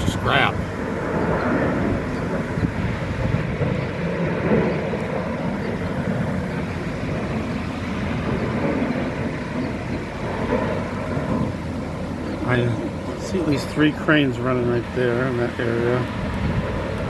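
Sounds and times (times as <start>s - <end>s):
cranes running: 0.0s - 17.0s.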